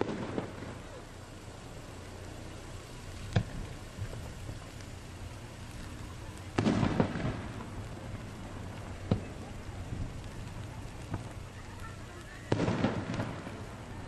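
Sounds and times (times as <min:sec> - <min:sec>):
firework bang: 0:00.0 - 0:14.0
firework crackling reports: 0:00.0 - 0:14.0.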